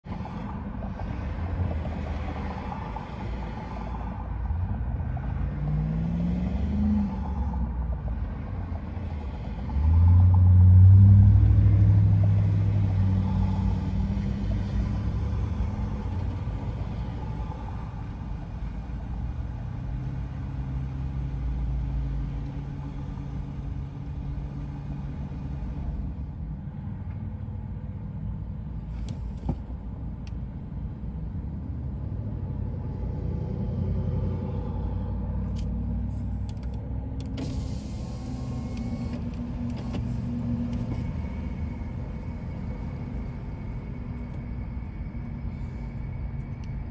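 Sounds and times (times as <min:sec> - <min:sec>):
car engine rumble: 0:00.0 - 0:46.9
road noise inside car: 0:00.0 - 0:46.9.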